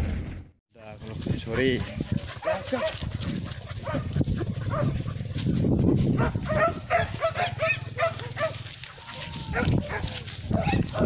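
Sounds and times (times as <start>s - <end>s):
dogs barking: 1.4s - 5.5s, 6.1s - 11.0s.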